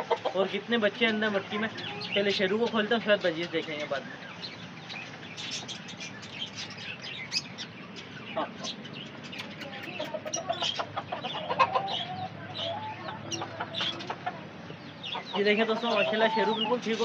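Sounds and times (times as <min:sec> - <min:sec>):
chickens clucking: 0:00.0 - 0:17.0
small cage birds chirping: 0:00.0 - 0:17.0.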